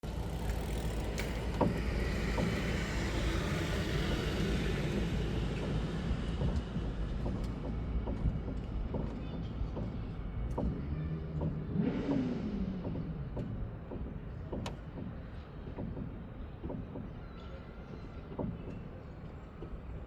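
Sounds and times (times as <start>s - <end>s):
car rolling with low rumble: 0.0s - 20.0s
road noise: 0.0s - 20.0s
sharp steering knocks: 0.3s - 17.5s.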